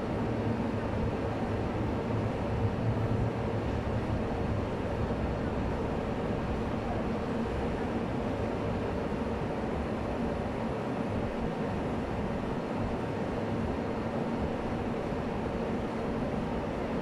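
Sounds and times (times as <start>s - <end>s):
stationary electric train humming: 0.0s - 17.0s.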